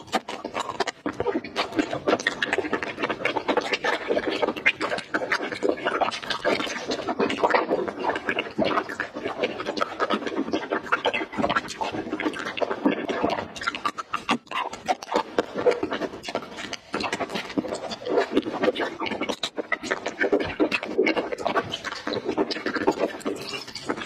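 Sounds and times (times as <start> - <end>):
chewing soft jelly candies: 0.0 - 24.0.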